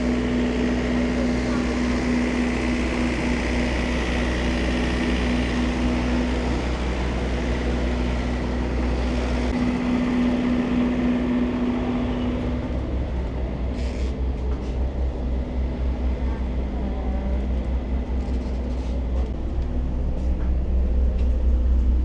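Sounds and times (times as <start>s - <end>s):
diesel train rumble and hum: 0.0s - 22.0s.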